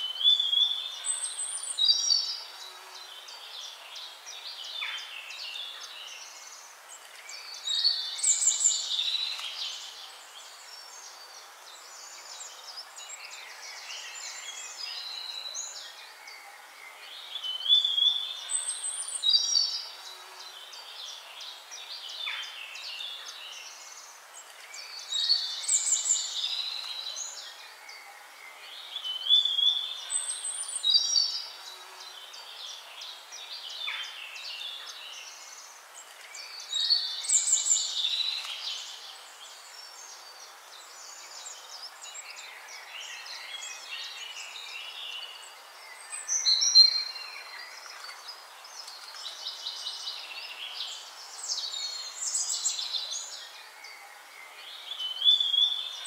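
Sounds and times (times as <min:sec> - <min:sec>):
birds chirping and singing: 0:00.0 - 0:56.0
steady hiss: 0:00.0 - 0:56.0.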